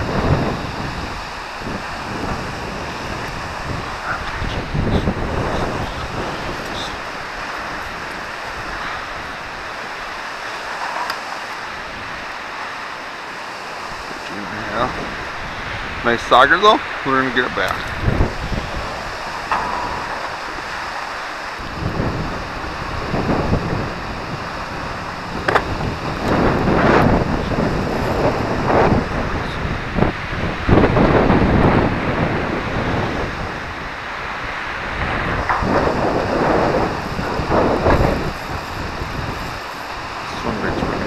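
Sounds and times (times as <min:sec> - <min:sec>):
water lapping against hull: 0:00.0 - 0:16.1, 0:17.6 - 0:41.0
wind noise on microphone: 0:00.0 - 0:41.0.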